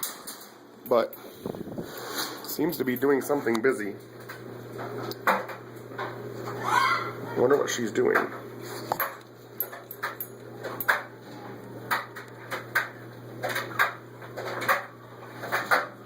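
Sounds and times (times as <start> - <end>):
steady low hum: 0.1 - 16.0.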